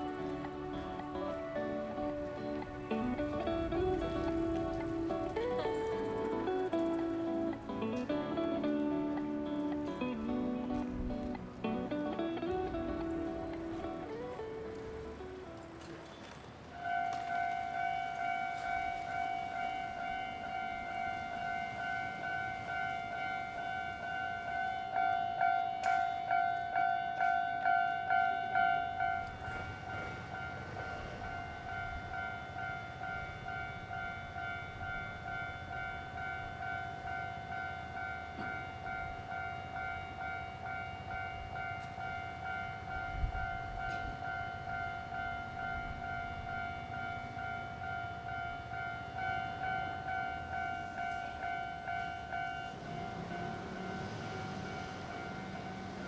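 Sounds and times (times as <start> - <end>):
level crossing warning bell: 0.0 - 56.0
passing train rumble: 0.0 - 56.0.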